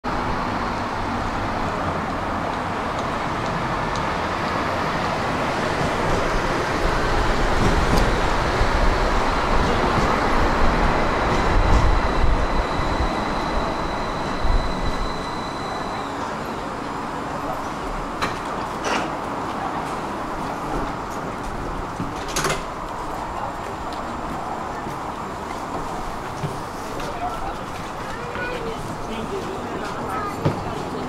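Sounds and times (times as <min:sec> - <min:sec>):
tram wheels rumbling on rails: 0:00.1 - 0:31.0.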